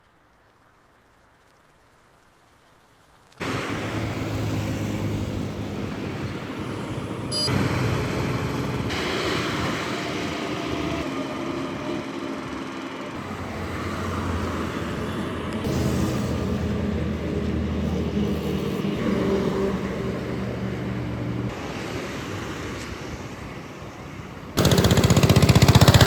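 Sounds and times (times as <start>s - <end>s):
highway traffic: 3.4s - 26.0s.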